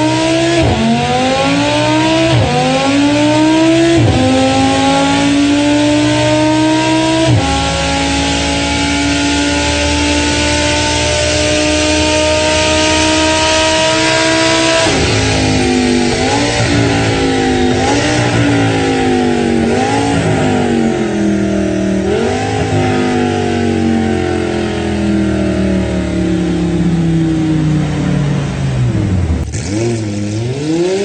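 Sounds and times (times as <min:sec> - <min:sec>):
racing car engine revving: 0:00.0 - 0:31.0.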